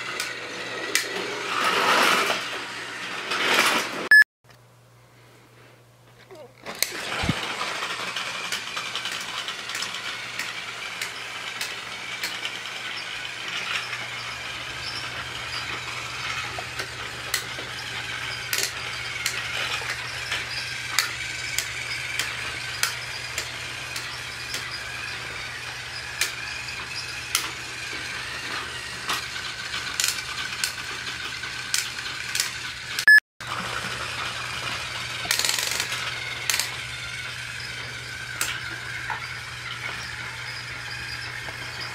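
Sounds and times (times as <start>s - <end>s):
toy train motor whirring: 0.0s - 4.1s, 6.6s - 41.9s.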